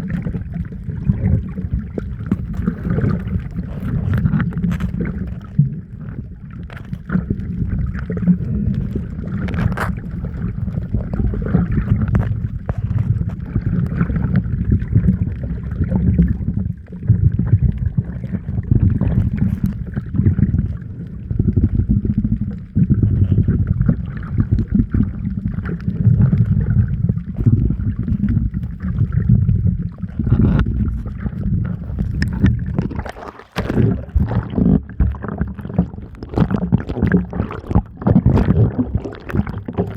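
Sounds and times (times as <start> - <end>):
muffled rumble of water: 0.0 - 39.9
water bubbling: 0.0 - 39.9.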